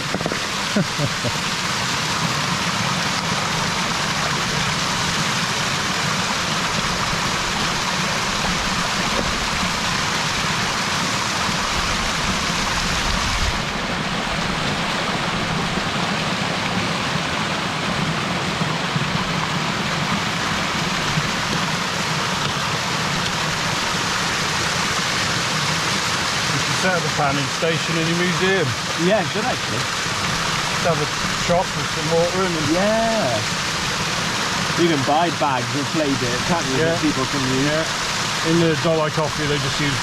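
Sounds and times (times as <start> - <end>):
running water rushing: 0.0 - 40.0.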